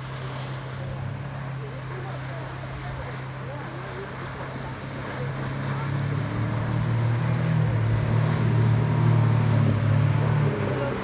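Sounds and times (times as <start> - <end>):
motorboat engine drone: 0.0 - 11.0
rushing wake water: 0.0 - 11.0
wind: 0.0 - 11.0.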